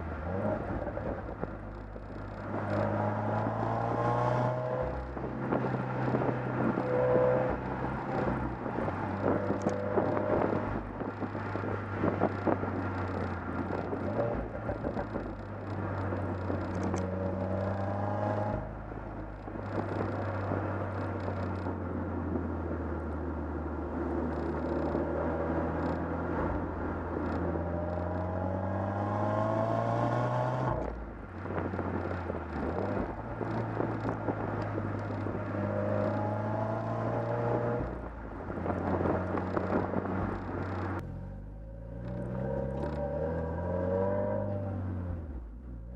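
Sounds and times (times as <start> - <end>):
car engine accelerating: 0.0 - 45.9
road and wind noise: 0.0 - 45.9.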